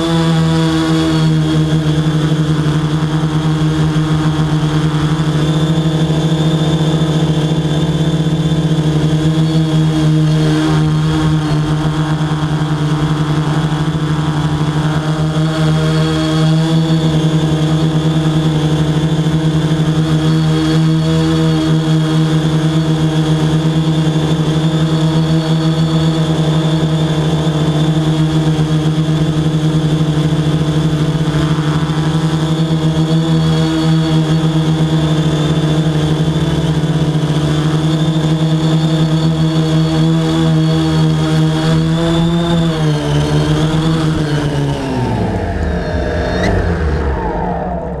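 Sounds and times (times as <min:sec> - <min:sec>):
drone propellers buzzing: 0:00.0 - 0:48.0.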